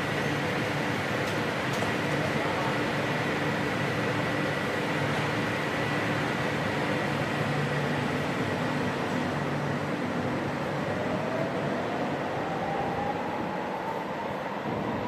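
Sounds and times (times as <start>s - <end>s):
light-rail train motor whine: 0.0s - 15.0s.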